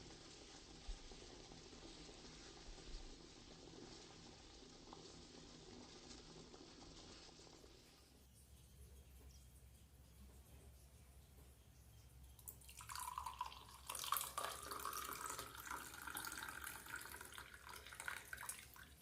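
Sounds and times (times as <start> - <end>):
liquid pouring into a vessel: 0.1 - 19.0.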